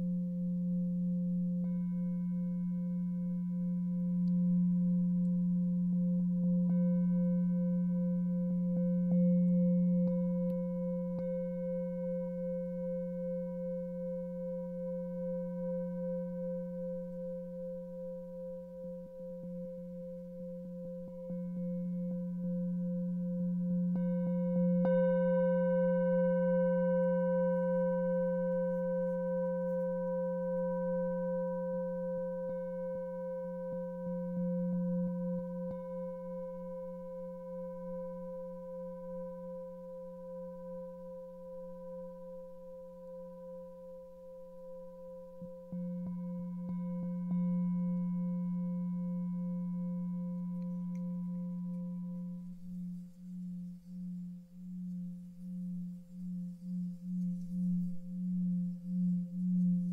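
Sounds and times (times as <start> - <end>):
singing bowl ringing: 0.0 - 59.9.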